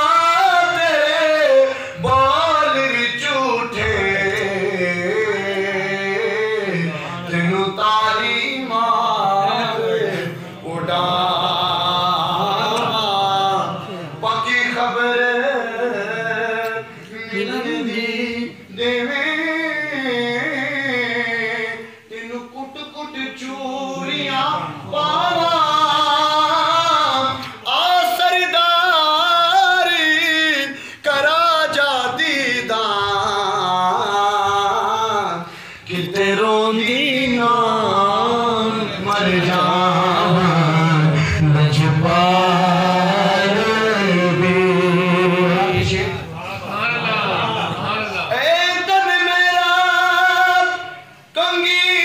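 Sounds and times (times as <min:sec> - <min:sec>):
man singing devotional song: 0:00.0 - 0:46.6, 0:48.2 - 0:52.0.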